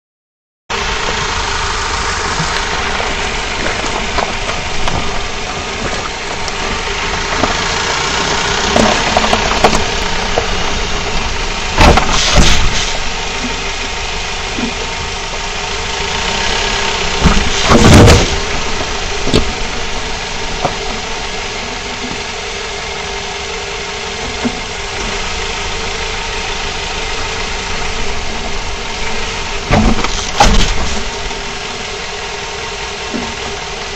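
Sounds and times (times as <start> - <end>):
car road and engine noise: 0.7 - 33.9
suspension clunks over bumps: 0.7 - 33.9.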